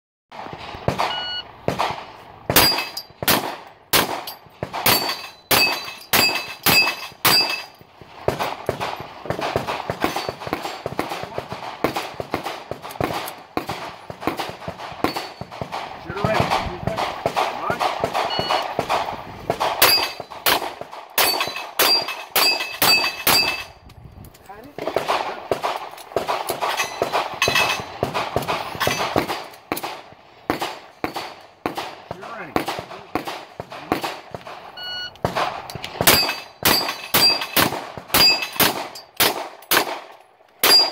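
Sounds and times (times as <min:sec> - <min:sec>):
pistol gunfire: 0:00.3 - 0:23.6, 0:24.8 - 0:40.9.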